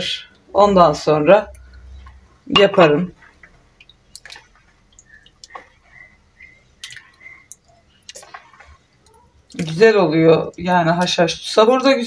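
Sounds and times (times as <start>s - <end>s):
hand sloshing liquid in a bowl: 1.4s - 12.0s
small splashes and drips: 1.4s - 12.0s.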